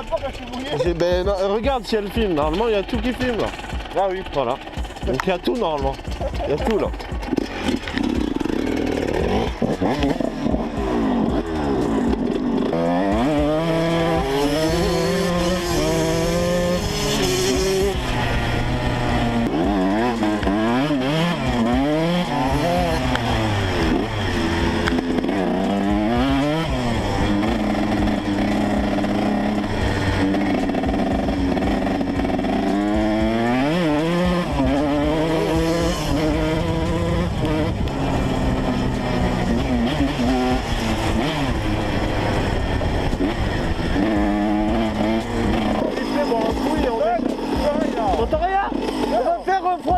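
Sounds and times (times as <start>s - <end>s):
two-stroke motorcycle engine revving: 0.0s - 49.9s.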